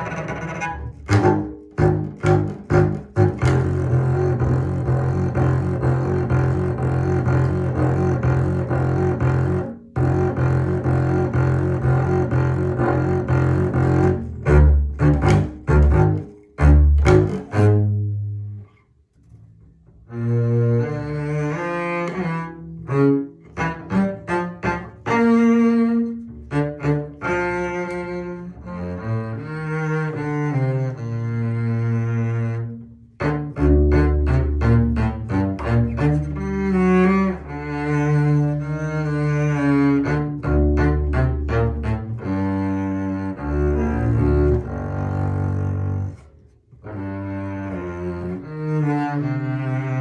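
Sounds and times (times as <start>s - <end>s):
bowed double bass: 0.0s - 50.0s.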